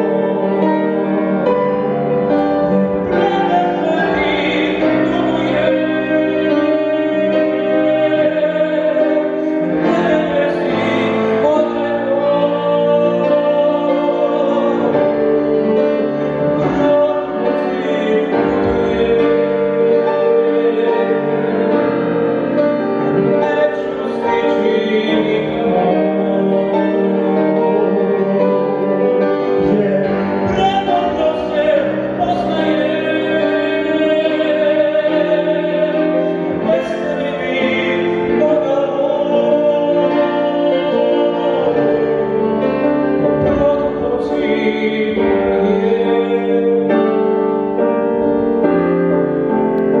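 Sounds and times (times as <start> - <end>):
man singing into a microphone: 0.0 - 48.8
piano accompaniment: 0.0 - 50.0.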